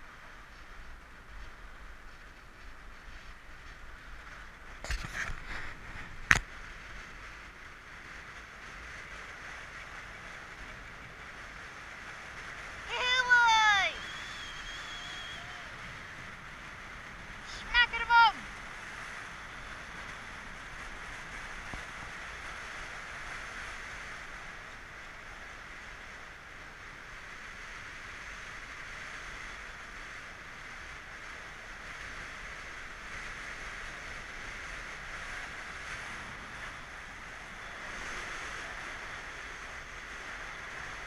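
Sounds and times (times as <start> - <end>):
tyre noise on asphalt: 0.0 - 41.0
wind rushing over microphone: 0.0 - 41.0.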